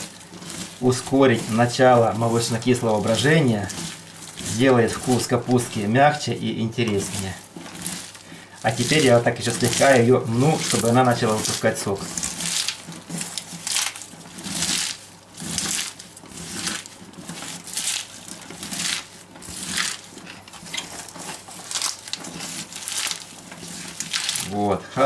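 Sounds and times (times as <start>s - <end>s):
squeezing shredded cabbage by hand: 0.0s - 25.0s.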